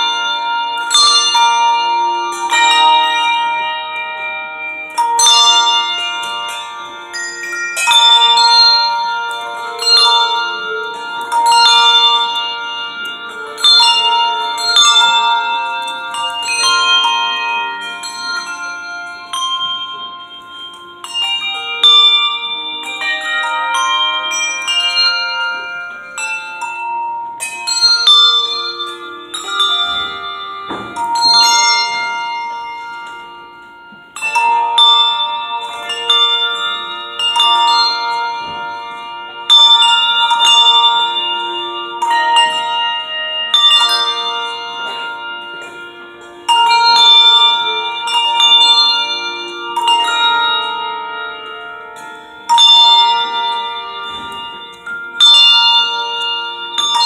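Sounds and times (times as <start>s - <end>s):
handbell choir playing: 0.0s - 57.0s.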